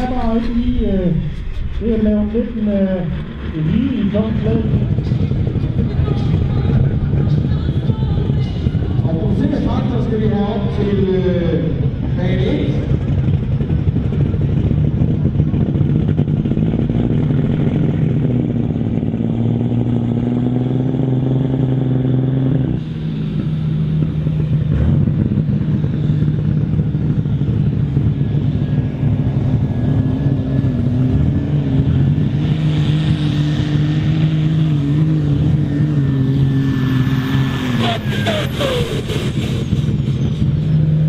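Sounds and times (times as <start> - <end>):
diesel tractor engines running: 0.0 - 41.0.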